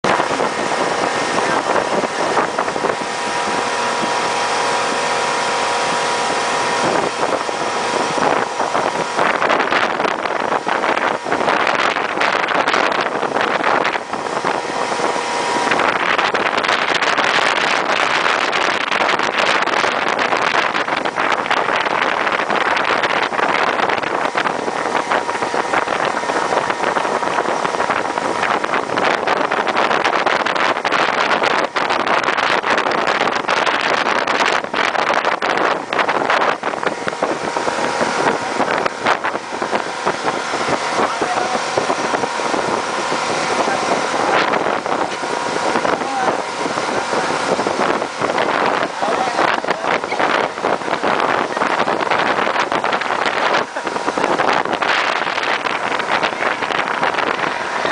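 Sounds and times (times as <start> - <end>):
churning wake rushing: 0.0 - 57.9
motorboat engine running: 0.0 - 57.9
wind buffeting microphone: 0.0 - 57.9.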